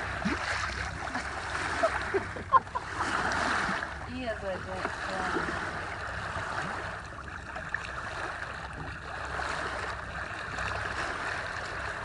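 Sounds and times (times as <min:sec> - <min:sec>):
low steady hum: 0:00.0 - 0:12.0
water rushing along a hull: 0:00.0 - 0:12.0.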